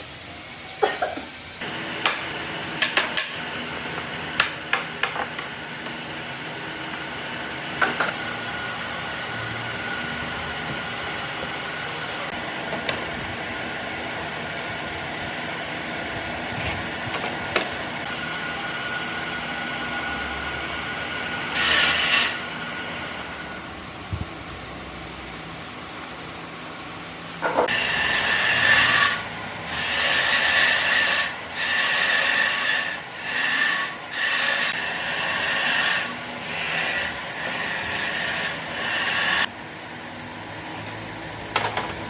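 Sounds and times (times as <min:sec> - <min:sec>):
machine hum: 0:01.6 - 0:42.0.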